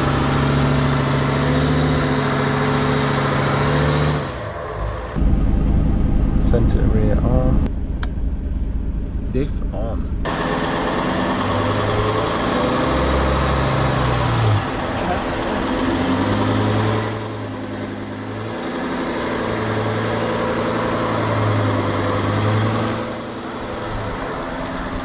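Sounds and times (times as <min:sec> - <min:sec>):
diesel engine revving hard: 0:00.0 - 0:07.7, 0:09.4 - 0:25.0.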